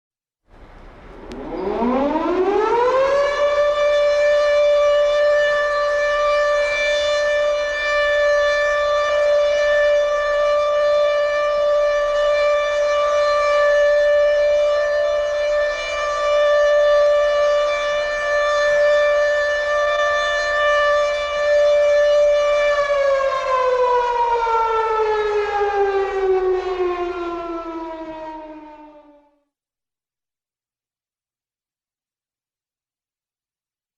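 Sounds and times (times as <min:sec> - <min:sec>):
air raid siren: 0:00.5 - 0:29.5.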